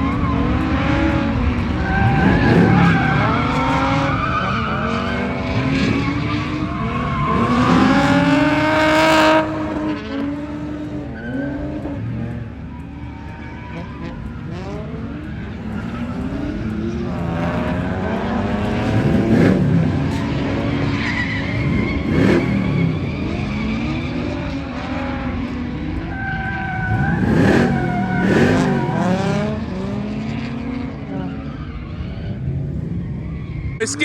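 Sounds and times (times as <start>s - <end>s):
car engine revving: 0.0s - 34.0s
tyres skidding: 0.0s - 34.0s.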